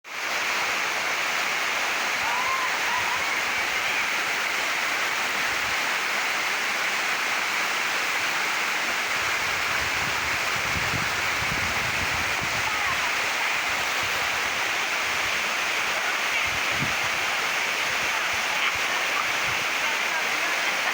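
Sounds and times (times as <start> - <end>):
waterfall rushing: 0.1 - 20.9.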